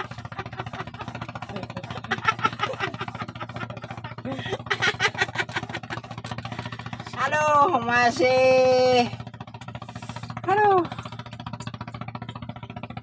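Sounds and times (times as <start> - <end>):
engine clatter: 0.0 - 13.0
small engine chugging: 0.0 - 13.0.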